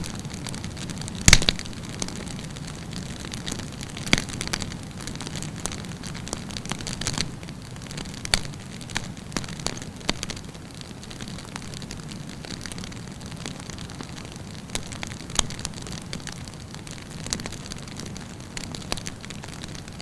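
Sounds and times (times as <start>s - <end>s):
burning wood crackling: 0.0s - 20.0s
campfire flames hissing: 0.0s - 20.0s.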